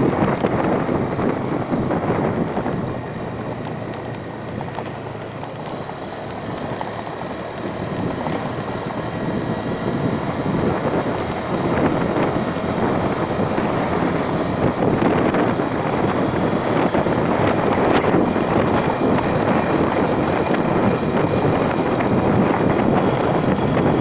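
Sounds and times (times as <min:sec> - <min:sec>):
vehicle engine and road noise: 0:00.0 - 0:24.0
wind rushing over microphone: 0:00.0 - 0:24.0.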